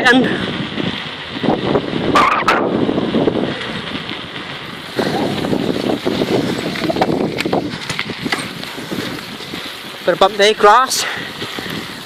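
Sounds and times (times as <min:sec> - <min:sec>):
bicycle rumbling over rough ground: 0:00.0 - 0:12.0
wind buffeting microphone: 0:00.0 - 0:12.0.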